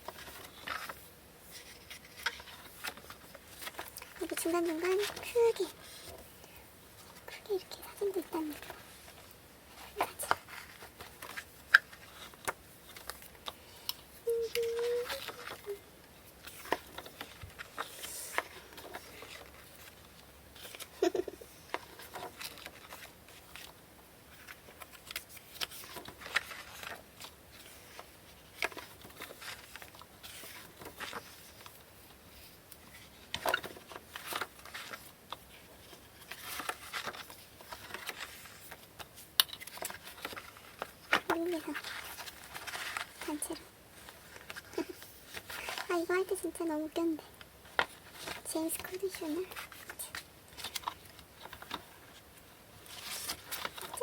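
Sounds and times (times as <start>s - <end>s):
book pages rustling: 0.0s - 54.0s.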